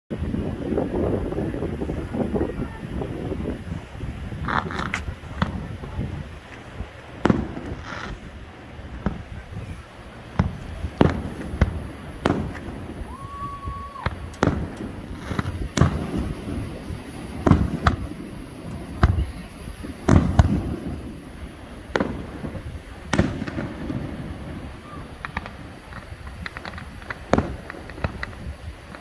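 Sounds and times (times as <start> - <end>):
fireworks booming: 0.1 - 29.0.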